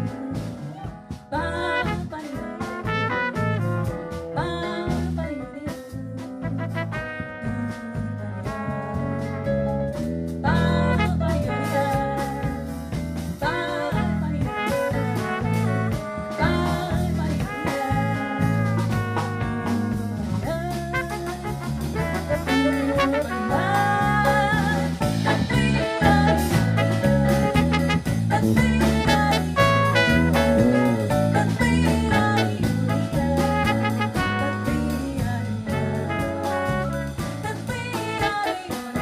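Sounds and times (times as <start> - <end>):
live jazz ensemble playing: 0.0 - 39.0.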